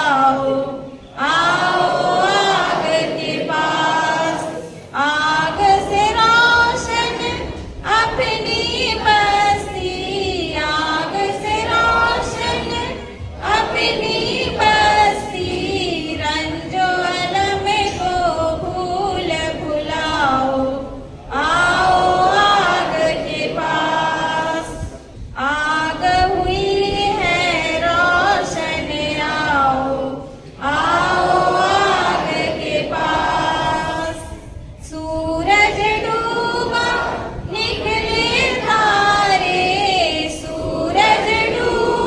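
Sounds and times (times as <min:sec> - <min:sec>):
group singing without instruments: 0:00.0 - 0:42.0.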